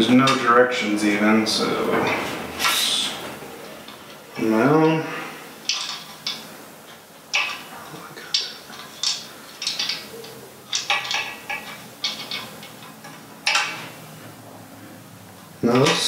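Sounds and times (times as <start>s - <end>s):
metal parts clanking and rattling: 1.6s - 14.4s, 15.3s - 16.0s.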